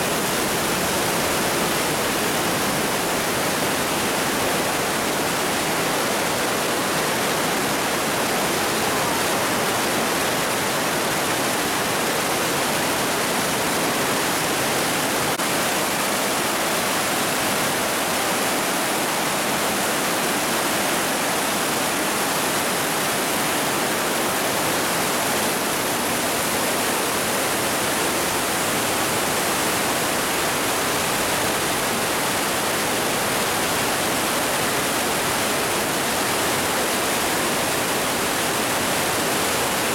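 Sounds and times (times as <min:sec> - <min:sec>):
whitewater rushing through gorge: 0:00.0 - 0:39.9.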